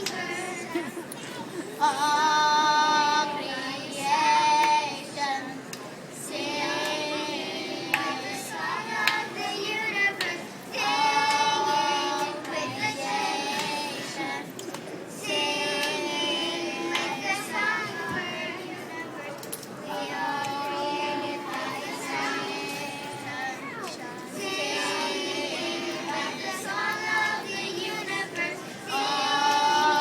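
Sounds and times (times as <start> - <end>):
girls' choir singing: 0.0 - 30.0.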